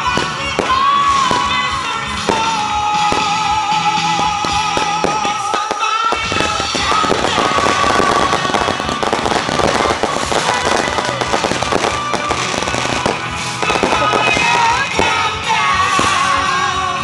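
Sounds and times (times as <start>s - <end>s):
background music: 0.0s - 17.0s
fireworks crackling and banging: 0.0s - 17.0s.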